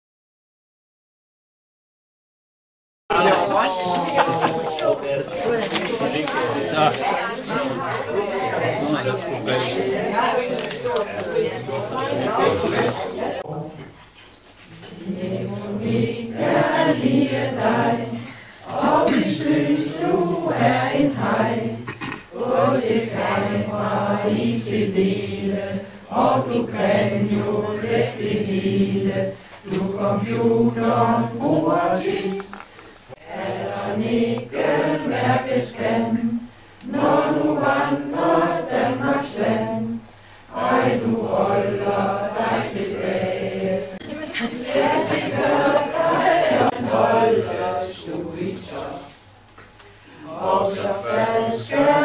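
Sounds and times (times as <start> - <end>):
group singing together: 3.1 - 14.0, 14.6 - 52.0.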